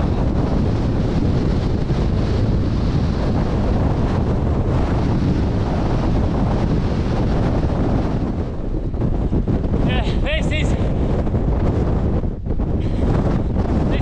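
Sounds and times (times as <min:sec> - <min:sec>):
storm wind buffeting microphone: 0:00.0 - 0:14.0.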